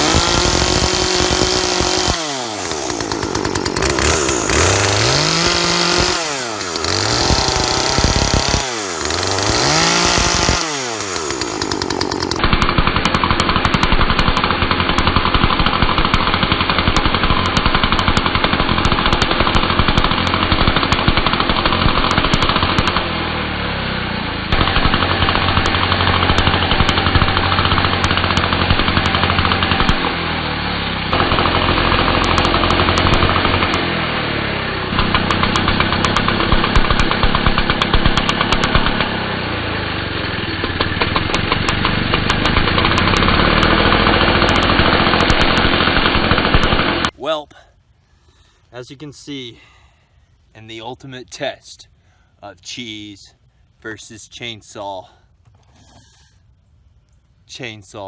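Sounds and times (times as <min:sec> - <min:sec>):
chainsaw revving: 0:00.0 - 0:47.2.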